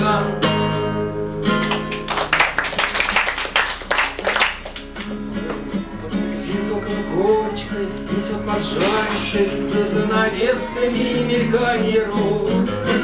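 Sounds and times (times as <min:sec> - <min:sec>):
classical guitar playing: 0:00.0 - 0:02.2, 0:04.8 - 0:13.0.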